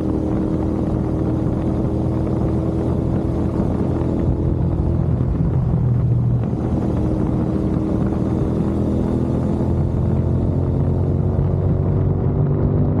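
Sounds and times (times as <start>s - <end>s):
deep motorcycle exhaust note: 0.0s - 13.0s.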